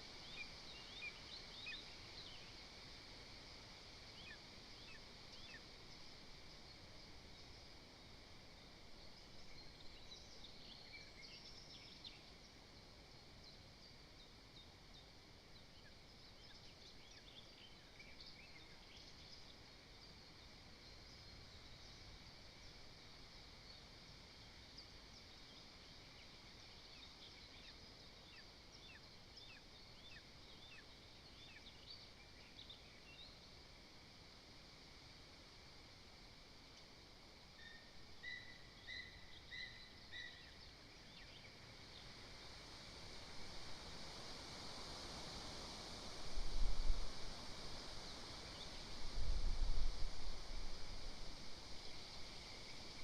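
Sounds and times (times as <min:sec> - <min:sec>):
distant songbirds chirping: 0:00.0 - 0:34.4, 0:35.7 - 0:46.1, 0:47.1 - 0:53.0
steady hiss: 0:00.0 - 0:53.0.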